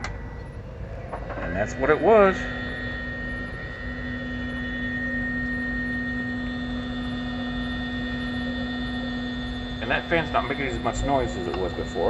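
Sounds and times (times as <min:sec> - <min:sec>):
cooling fans humming: 0:00.0 - 0:12.0
high whine: 0:00.0 - 0:12.0.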